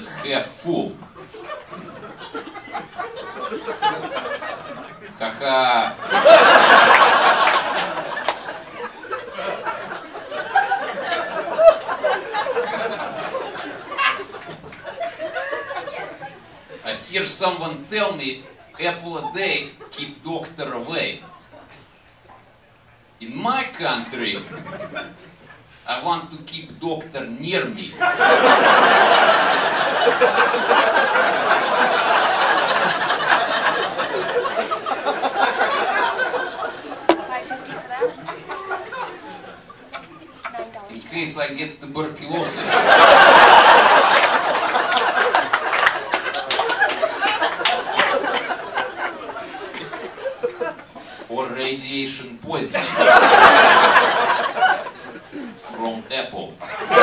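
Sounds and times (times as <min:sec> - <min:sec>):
audience laughing: 0:00.0 - 0:17.4, 0:23.8 - 0:25.8, 0:27.5 - 0:40.9, 0:41.9 - 0:51.3, 0:52.5 - 0:57.0.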